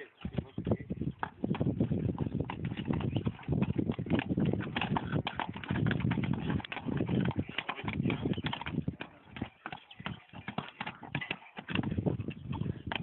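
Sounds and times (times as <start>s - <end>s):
hooves stamping on cobbles: 0.0s - 13.0s.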